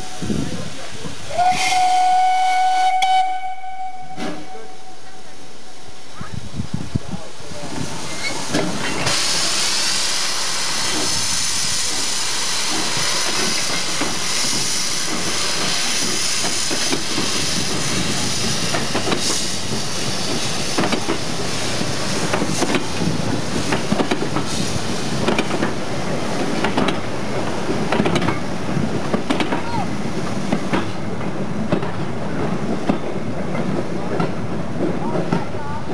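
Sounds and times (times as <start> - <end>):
steam locomotive hissing: 0.0 - 35.9.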